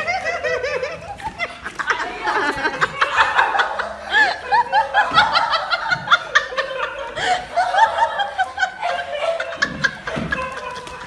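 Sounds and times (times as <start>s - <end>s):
people laughing and giggling: 0.0s - 11.0s.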